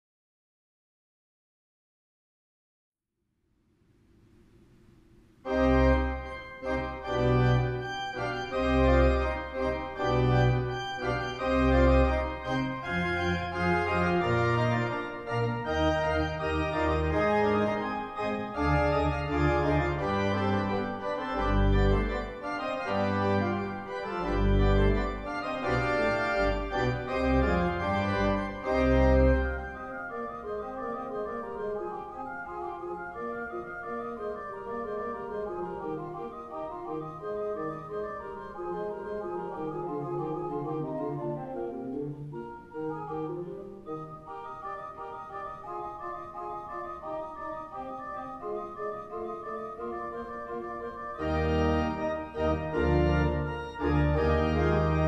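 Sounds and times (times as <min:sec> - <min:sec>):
organ pedal bass line: 0:05.4 - 0:55.0
pipe organ playing lively piece: 0:05.4 - 0:55.0.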